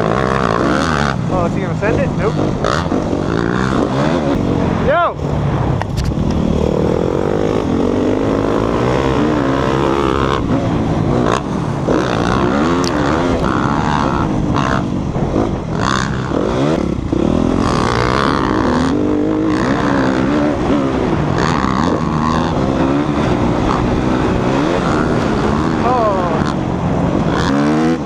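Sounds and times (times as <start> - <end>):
dirt bike engine revving: 0.0 - 5.4, 6.0 - 28.0.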